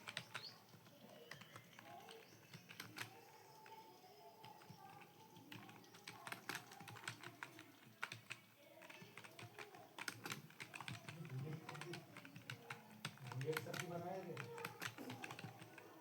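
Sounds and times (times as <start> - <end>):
keyboard typing: 0.0 - 16.0.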